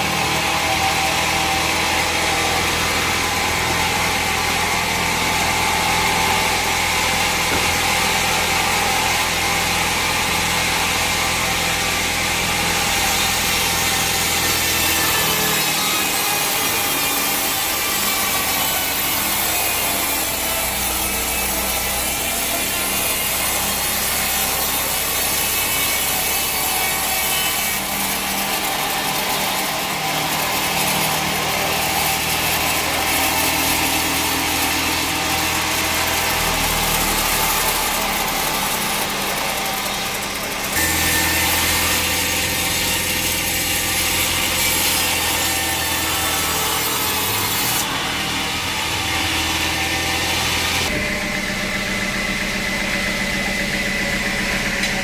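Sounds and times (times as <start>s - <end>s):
hum of mill machinery: 0.0s - 55.0s
saw cutting through log: 0.0s - 55.0s.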